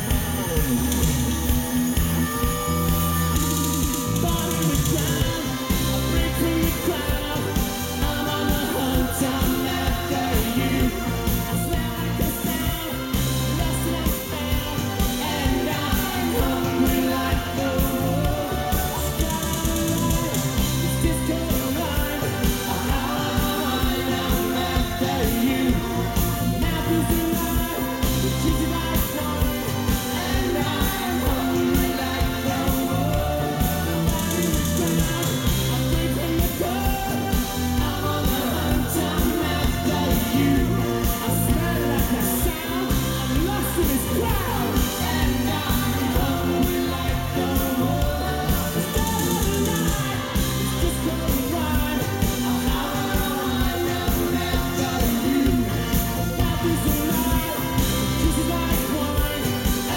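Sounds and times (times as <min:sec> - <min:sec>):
electric bass: 0:00.0 - 0:59.9
guitar: 0:00.0 - 0:59.9
keyboards: 0:00.0 - 0:59.9
person singing: 0:00.0 - 0:59.9
steady drum beat: 0:00.0 - 0:59.9.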